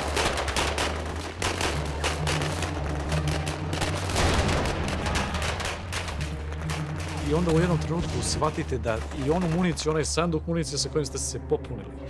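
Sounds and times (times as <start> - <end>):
rifle and automatic gunfire: 0.0 - 9.7
steady low drone: 0.0 - 12.0.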